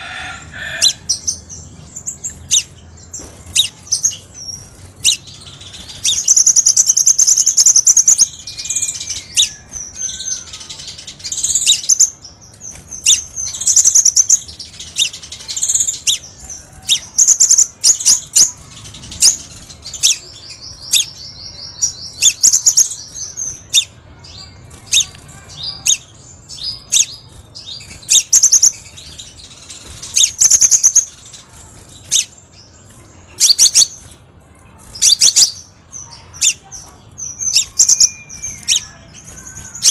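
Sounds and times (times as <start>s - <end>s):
bird chirping and twittering: 0.0s - 39.9s
fast bird trill: 3.5s - 32.6s, 33.3s - 34.2s, 34.9s - 35.7s, 37.2s - 39.9s.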